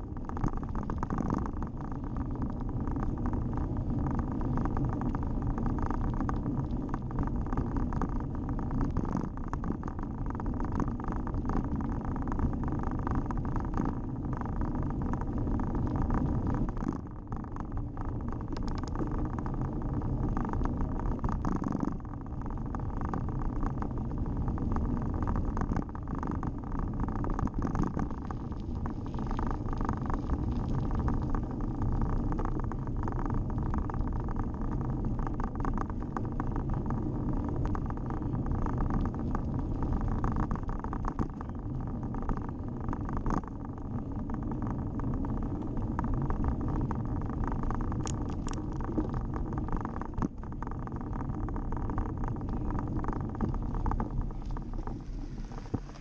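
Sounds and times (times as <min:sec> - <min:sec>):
bike tyres rumbling on tarmac: 0:00.0 - 0:56.0
wind on microphone: 0:00.0 - 0:56.0.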